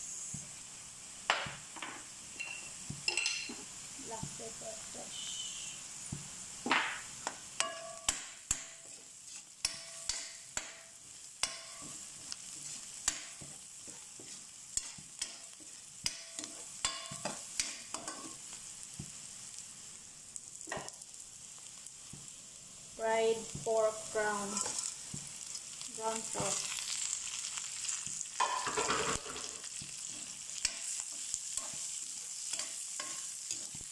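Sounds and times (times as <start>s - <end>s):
frying sizzle: 0.0s - 33.9s.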